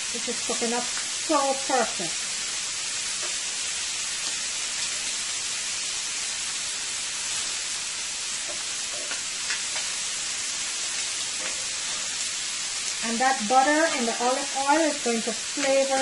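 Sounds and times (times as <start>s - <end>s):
shrimp sizzling in a pan: 0.0s - 16.0s.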